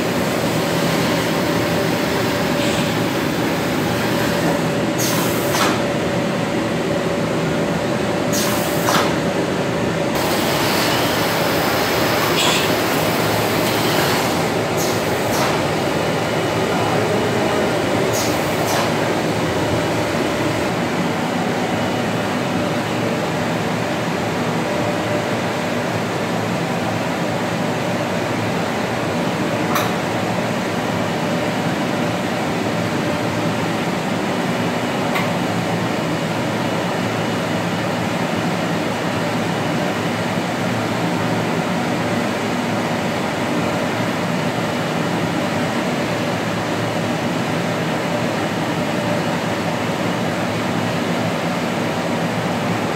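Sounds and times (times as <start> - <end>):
printing press humming and hissing: 0.0 - 52.9.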